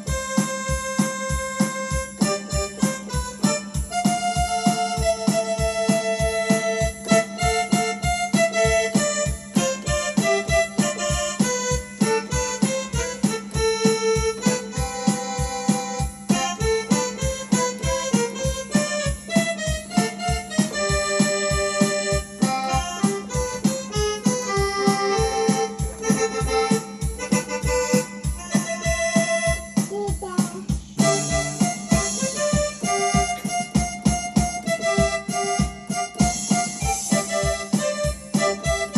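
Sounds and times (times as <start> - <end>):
drum machine beat: 0.0 - 38.9
keyboard accordion melody: 0.0 - 38.9.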